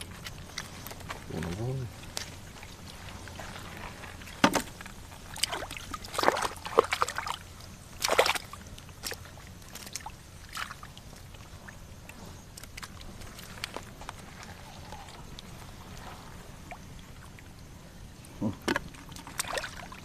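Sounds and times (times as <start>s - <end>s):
water splashing: 0.0s - 17.6s, 18.4s - 20.0s.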